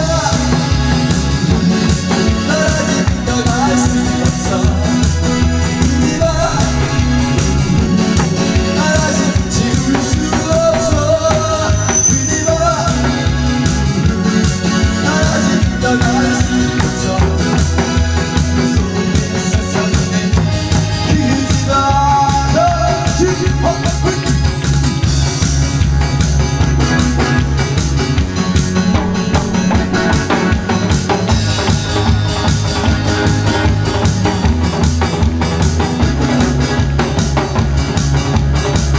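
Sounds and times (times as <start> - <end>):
loud music with drum beat: 0.0 - 38.9.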